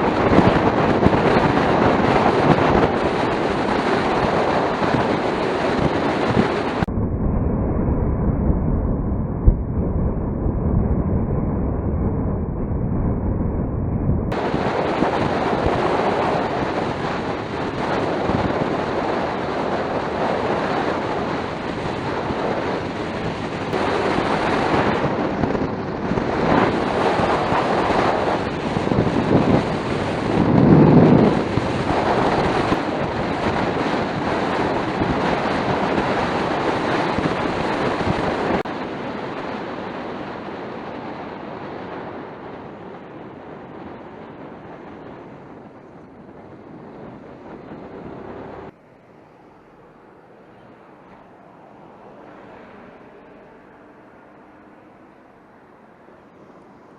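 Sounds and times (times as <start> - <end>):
road noise: 0.0 - 56.9
wind rushing over microphone: 0.0 - 56.9.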